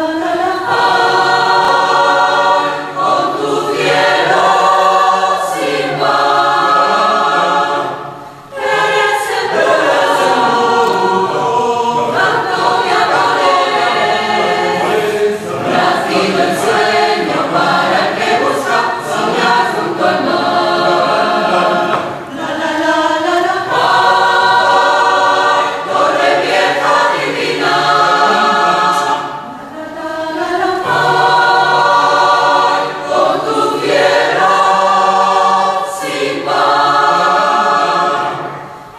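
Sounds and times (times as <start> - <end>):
mixed choir singing unaccompanied: 0.0 - 38.9.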